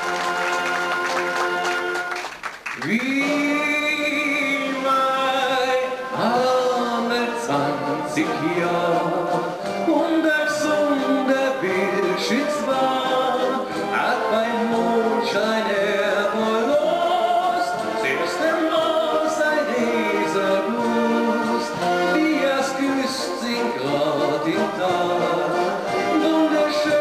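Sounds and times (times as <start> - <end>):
wind band playing folk song: 0.0 - 2.3, 3.2 - 27.0
man singing: 2.8 - 27.0.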